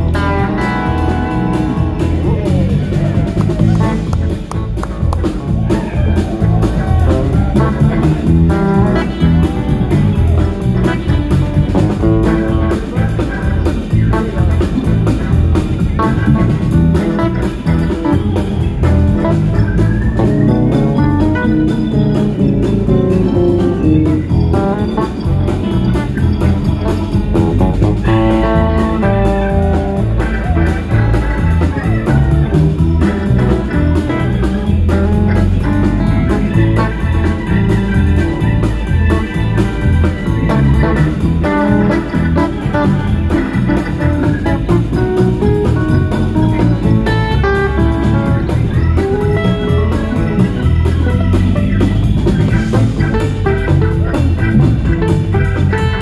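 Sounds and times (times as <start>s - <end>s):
drum kit: 0.0s - 56.0s
electric bass: 0.0s - 56.0s
electric guitar: 0.0s - 56.0s
organ: 0.0s - 56.0s.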